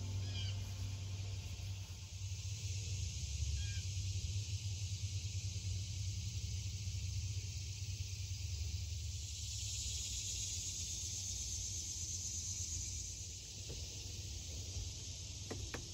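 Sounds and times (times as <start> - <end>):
steady high-pitched hiss: 0.0 - 15.9.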